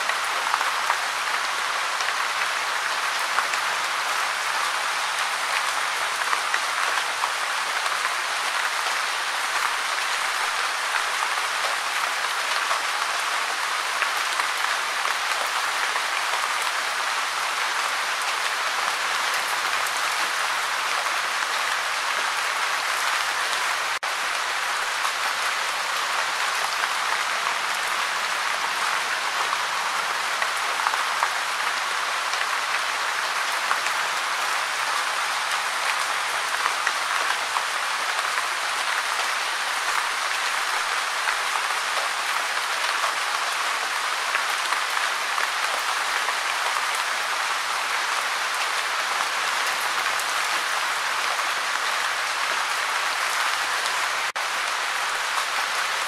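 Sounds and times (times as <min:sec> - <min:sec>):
gentle steady rain: 0:00.0 - 0:56.0.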